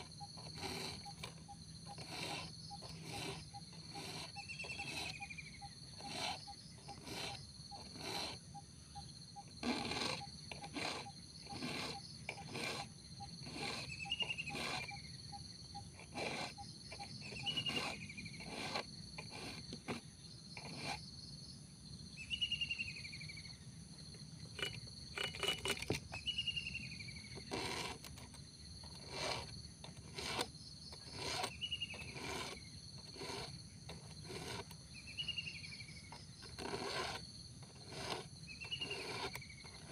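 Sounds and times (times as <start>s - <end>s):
file rasping on chainsaw chain: 0.0s - 8.6s, 9.4s - 21.1s, 24.4s - 26.2s, 27.3s - 34.9s, 36.0s - 39.9s
insects buzzing: 0.0s - 39.9s.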